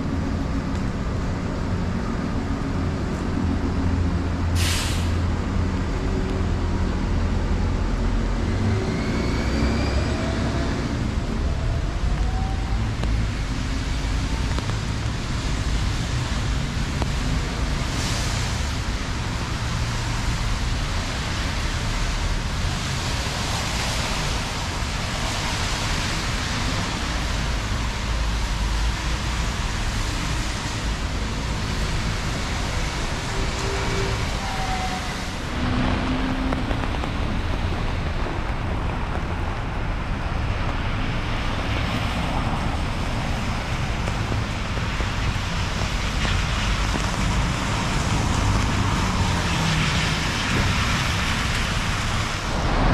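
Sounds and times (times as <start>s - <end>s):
traffic rumble: 0.0s - 52.9s
hiss of wet pavement: 4.3s - 7.8s, 12.6s - 52.9s.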